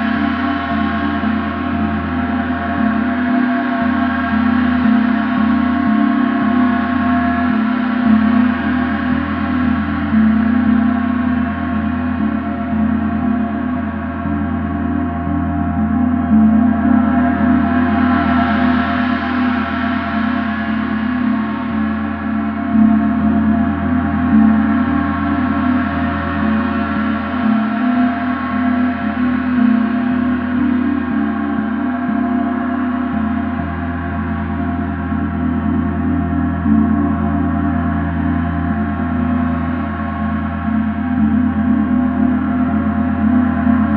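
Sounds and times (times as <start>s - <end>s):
large gong ringing: 0.0s - 43.9s.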